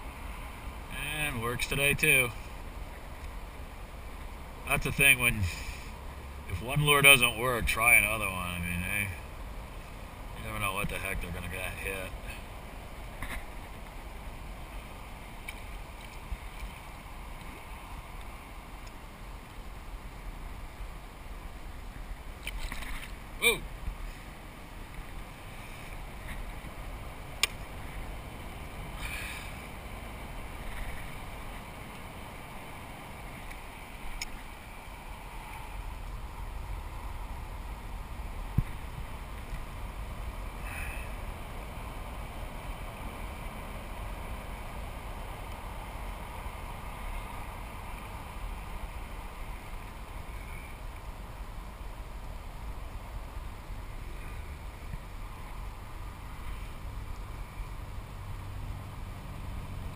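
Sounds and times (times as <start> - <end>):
water lapping around kayak: 0.0 - 59.9
wind: 0.0 - 59.9.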